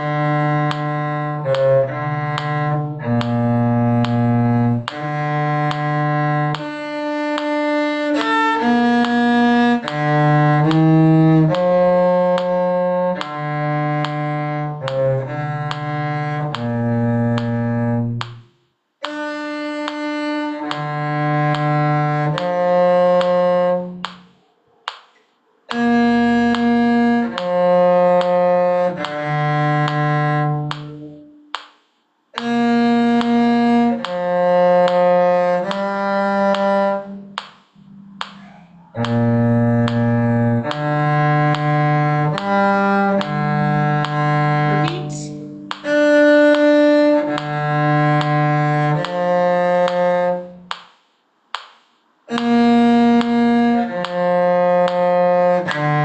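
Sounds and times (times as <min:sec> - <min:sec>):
cello playing lively tune: 0:00.0 - 0:24.2, 0:25.7 - 0:31.7, 0:32.4 - 0:50.8, 0:52.2 - 0:56.0.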